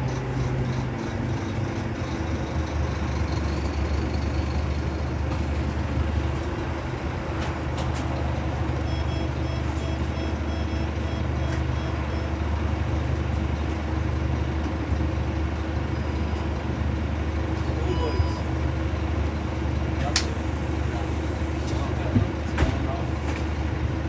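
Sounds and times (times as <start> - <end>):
bus diesel engine humming: 0.0 - 24.0.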